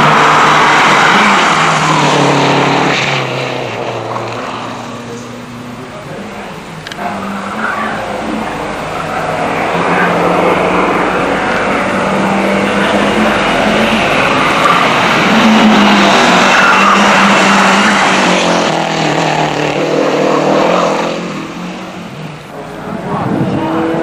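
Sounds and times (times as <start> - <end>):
rally car passing at speed: 0.0 - 24.0.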